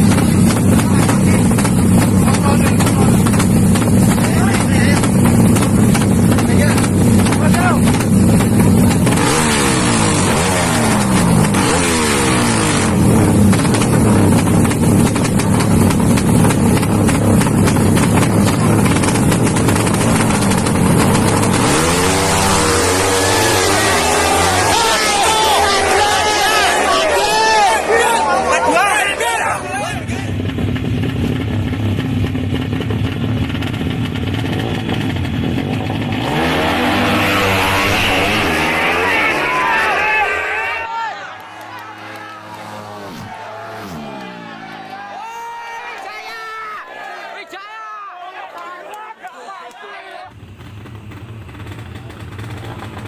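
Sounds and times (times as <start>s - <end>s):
motorcycle engine revving hard: 0.0s - 45.2s, 50.3s - 53.0s.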